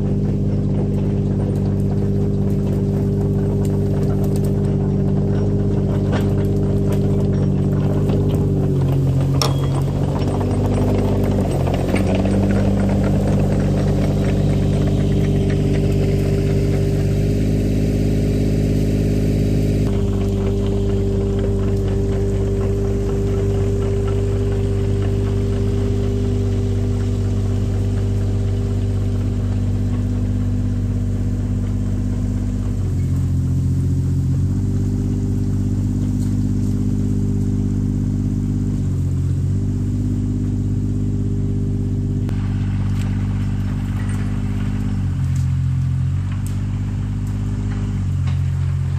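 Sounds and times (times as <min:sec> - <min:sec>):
tracks rattling: 0:00.0 - 0:18.8, 0:19.4 - 0:48.9
excavator diesel engine running: 0:00.0 - 0:48.9.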